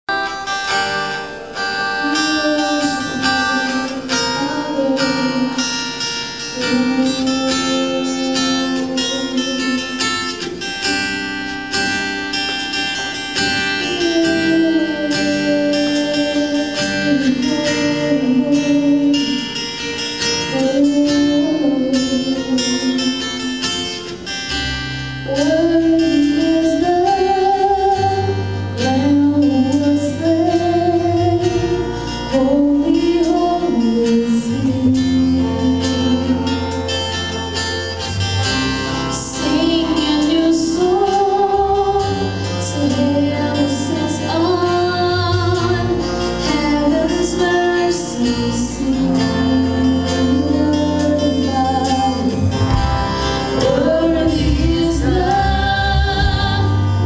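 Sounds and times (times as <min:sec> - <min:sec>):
live band playing: 0:00.1 - 0:57.0
woman singing: 0:00.2 - 0:38.0, 0:39.1 - 0:57.0.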